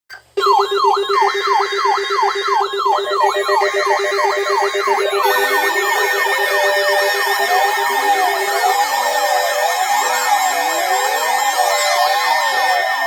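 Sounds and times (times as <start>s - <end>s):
falling siren sweeps: 0.4s - 13.0s.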